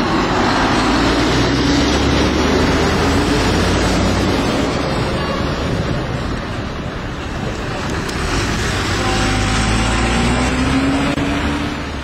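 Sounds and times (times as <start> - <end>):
lorries driving past: 0.0 - 12.0.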